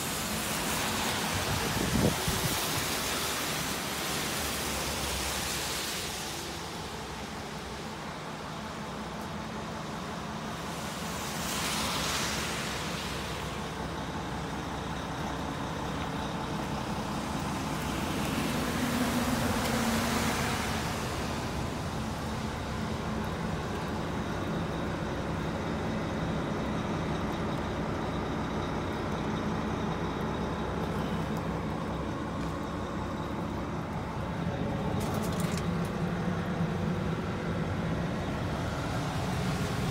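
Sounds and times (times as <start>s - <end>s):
hum of motor vehicles: 0.0s - 39.9s
vehicles passing: 0.0s - 39.9s.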